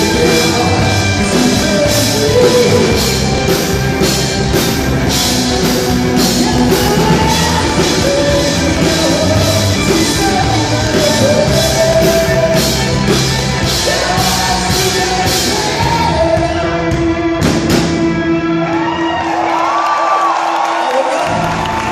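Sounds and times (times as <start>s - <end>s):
drums beating: 0.0s - 18.3s
person singing: 0.0s - 18.6s
rock band playing: 0.0s - 19.9s, 21.1s - 21.9s.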